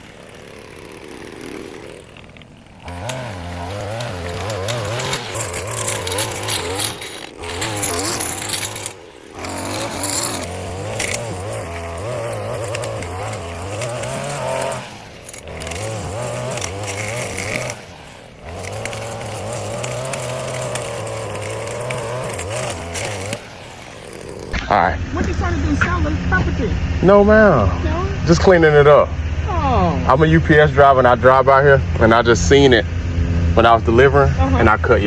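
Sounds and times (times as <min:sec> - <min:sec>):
small petrol engine running: 0:00.0 - 0:35.0.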